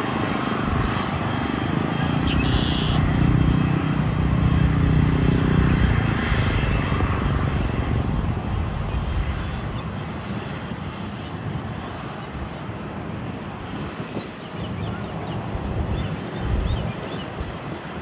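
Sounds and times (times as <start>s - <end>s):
airliner engines passing: 0.0s - 18.0s.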